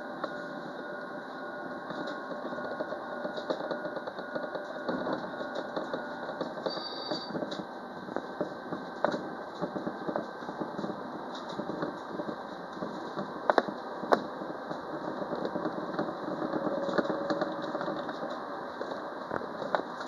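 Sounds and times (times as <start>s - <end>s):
faint steady whine: 0.0s - 20.0s
tram running noise: 0.0s - 20.0s.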